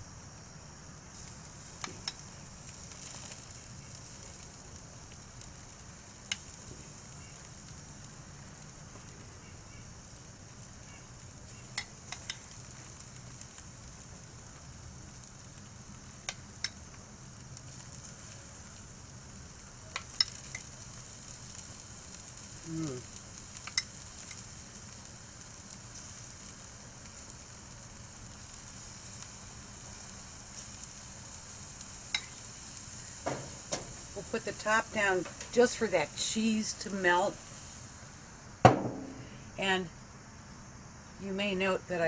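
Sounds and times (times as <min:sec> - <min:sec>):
chicken sizzling on a grill: 0:00.0 - 0:42.0
utensil clicking on grill: 0:01.1 - 0:37.9, 0:38.7 - 0:39.4.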